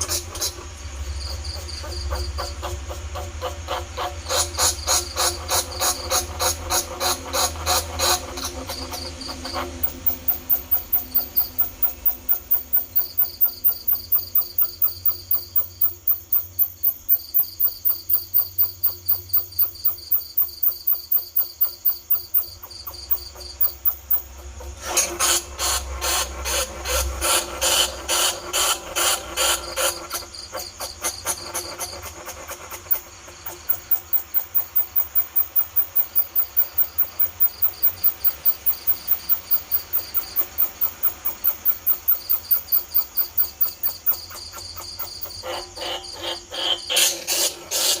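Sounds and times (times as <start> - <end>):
rat squeaks: 3.4 - 24.3, 25.2 - 48.0.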